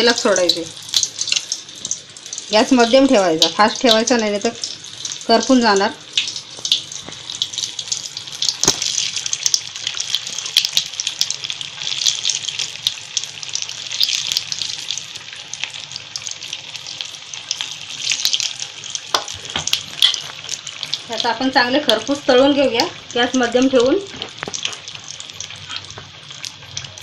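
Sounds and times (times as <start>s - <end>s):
food deep-frying in hot oil: 0.0s - 27.0s.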